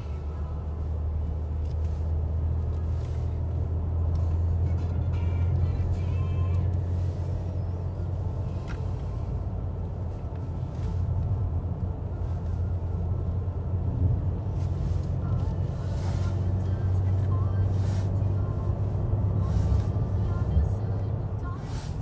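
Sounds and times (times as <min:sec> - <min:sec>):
car interior driving rumble: 0:00.0 - 0:22.0.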